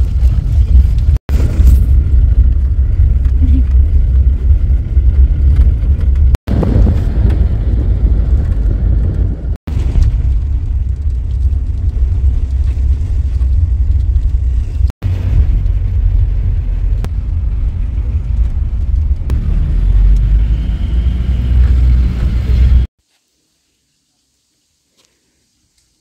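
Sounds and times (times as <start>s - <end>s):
vehicle engine and road rumble: 0.0s - 22.9s.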